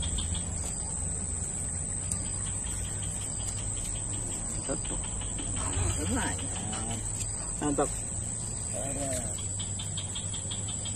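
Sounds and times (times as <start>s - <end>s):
insects calling: 0.0s - 10.9s
low steady rumble: 0.0s - 10.9s.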